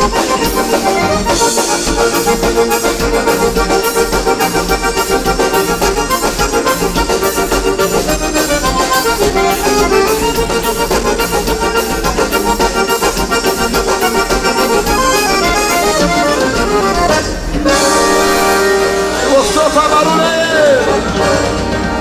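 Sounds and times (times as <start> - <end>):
accordion dance music: 0.0 - 22.0.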